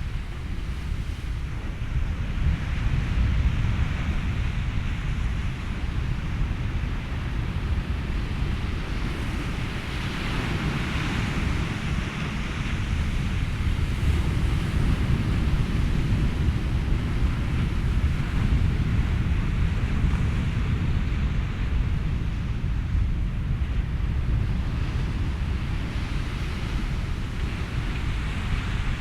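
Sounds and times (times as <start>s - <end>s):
ocean waves: 0.0s - 29.0s
wind: 0.0s - 29.0s.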